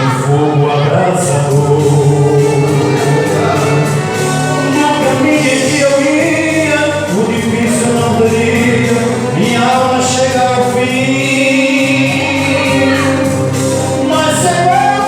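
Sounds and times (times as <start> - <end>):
band with bass line: 0.0 - 15.0
group singing gospel song: 0.0 - 15.0.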